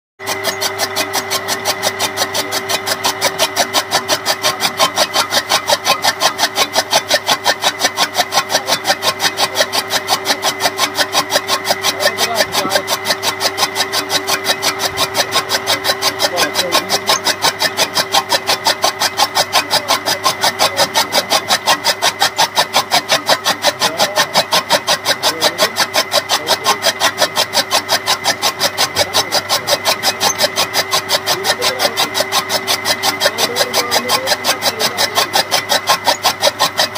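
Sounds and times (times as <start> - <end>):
blades chopping fodder: 0.2 - 36.9
motor whine: 0.2 - 36.9.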